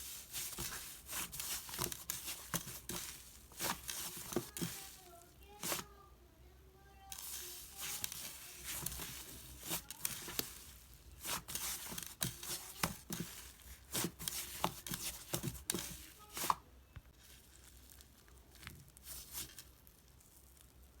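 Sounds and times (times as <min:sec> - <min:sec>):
slime stretching and crackling: 0:00.0 - 0:05.8, 0:07.1 - 0:16.5, 0:17.2 - 0:21.0.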